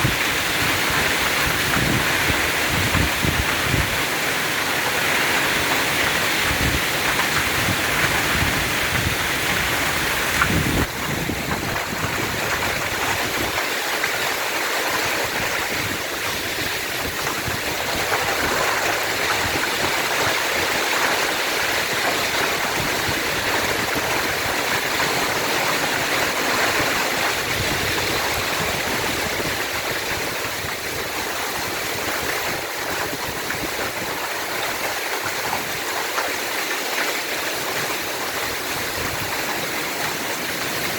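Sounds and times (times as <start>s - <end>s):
heavy rain and hail: 0.0s - 40.9s.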